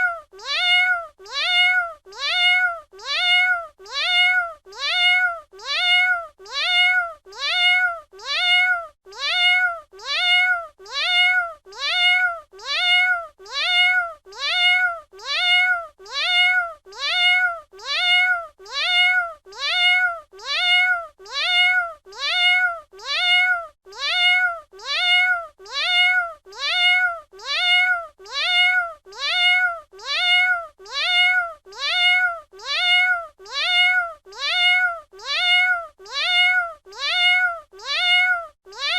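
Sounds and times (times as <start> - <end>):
cat meowing: 0.0 - 38.9.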